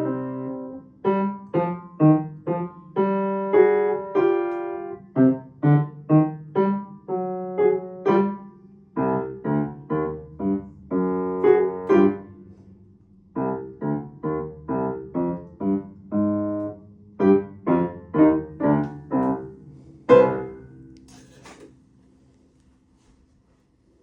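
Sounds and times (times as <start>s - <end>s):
piano playing detached chords: 0.0s - 22.0s.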